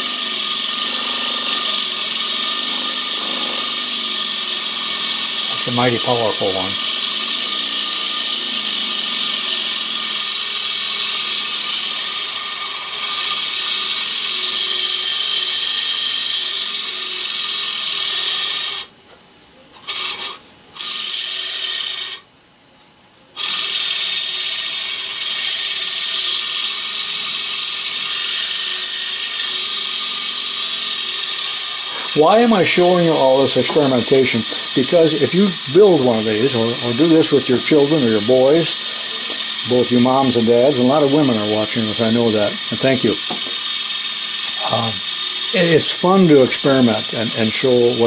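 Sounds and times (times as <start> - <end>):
small electric motor whirring: 0.0 - 18.9, 19.8 - 22.3, 23.3 - 48.0.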